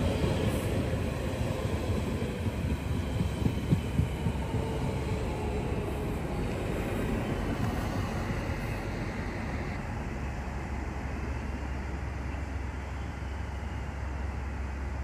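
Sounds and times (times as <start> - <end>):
train rumbling with hiss: 0.0 - 15.0.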